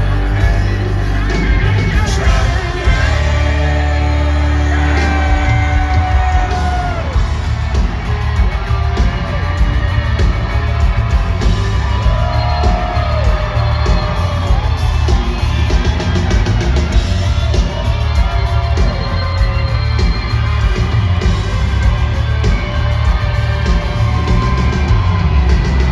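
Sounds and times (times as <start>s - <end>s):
crowd yelling and whooping: 0.0s - 25.9s
live country-rock band: 0.0s - 25.9s.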